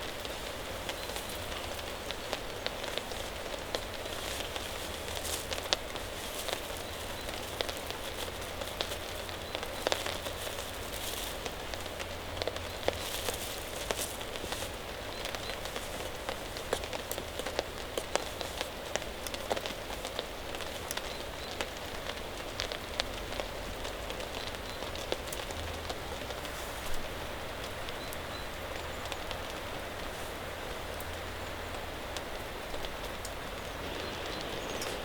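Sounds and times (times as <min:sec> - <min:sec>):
raindrops ticking close by: 0:00.0 - 0:35.0
steady rain falling: 0:00.0 - 0:35.0.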